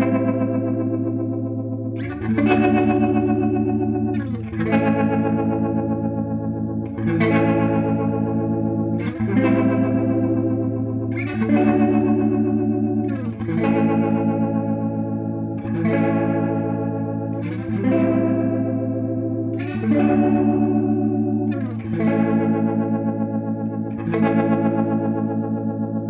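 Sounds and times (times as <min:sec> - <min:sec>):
swirling electric guitar chords: 0:00.0 - 0:26.0.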